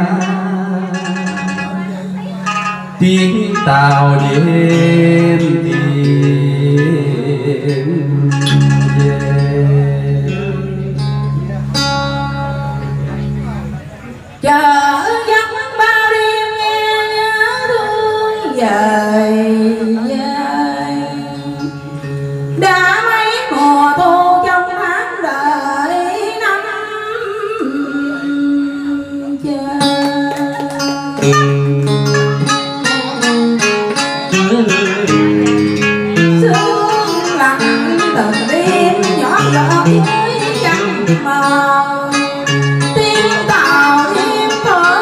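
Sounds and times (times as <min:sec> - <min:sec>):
woman singing into microphone: 0:00.0 - 0:11.1, 0:14.4 - 0:35.1, 0:36.1 - 0:45.0
backing music with guitar: 0:00.0 - 0:45.0.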